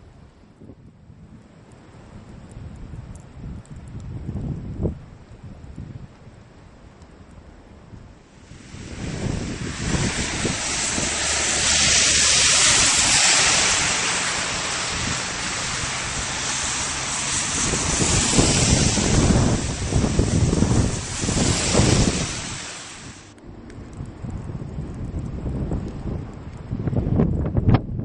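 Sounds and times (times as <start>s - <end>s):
storm wind gusting: 0.0s - 6.5s, 7.9s - 28.0s
wind buffeting microphone: 0.0s - 28.0s.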